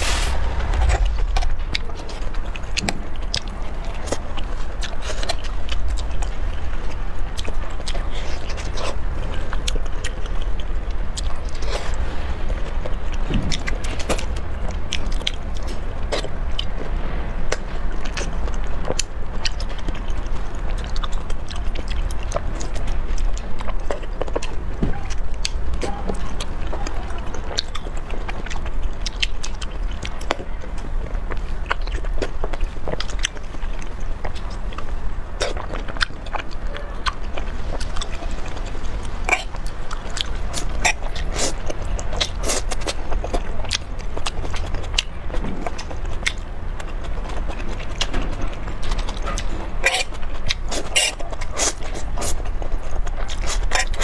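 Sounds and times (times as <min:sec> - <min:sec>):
steady low hum: 0:00.0 - 0:54.0
biting and chewing: 0:00.3 - 0:54.0.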